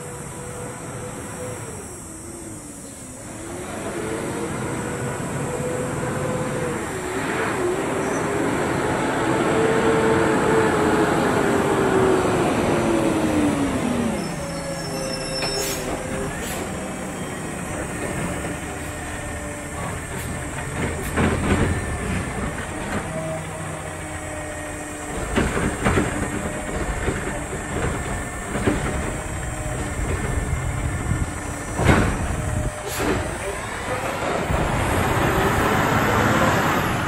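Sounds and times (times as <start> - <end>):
brakes squealing: 0.0 - 37.0
garbage truck diesel engine: 0.0 - 37.0.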